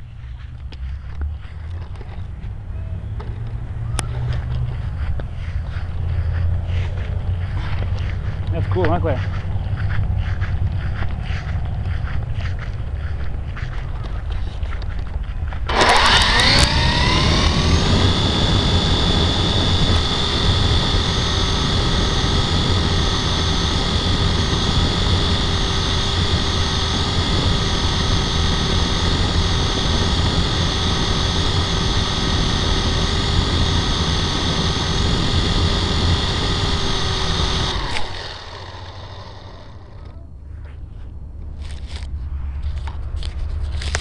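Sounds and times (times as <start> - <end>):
toy helicopter motor whining: 4.0 - 40.2.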